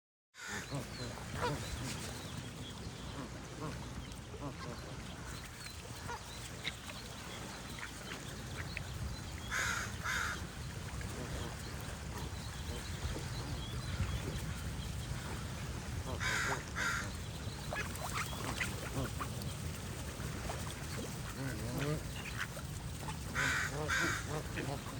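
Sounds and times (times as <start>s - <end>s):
small birds chirping: 0.4s - 24.9s
waterfowl hoarse calls: 0.4s - 24.9s.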